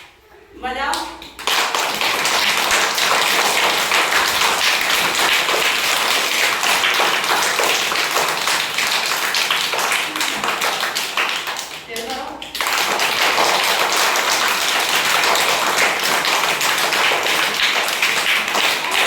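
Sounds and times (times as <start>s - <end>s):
group of hands clapping and tapping: 0.9s - 19.0s.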